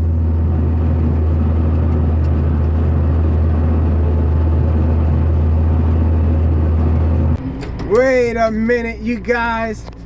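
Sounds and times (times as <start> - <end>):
tractor engine droning: 0.0 - 10.0.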